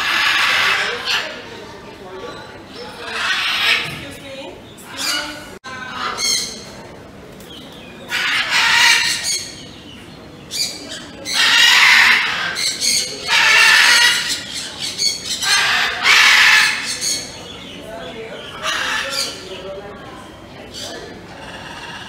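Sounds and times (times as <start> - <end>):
birds giving harsh calls: 0.0 - 22.0.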